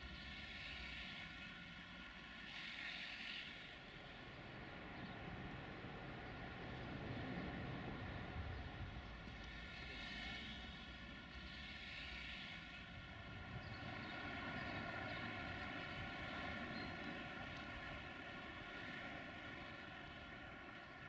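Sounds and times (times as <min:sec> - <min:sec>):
distant train rumble: 0:00.0 - 0:21.0.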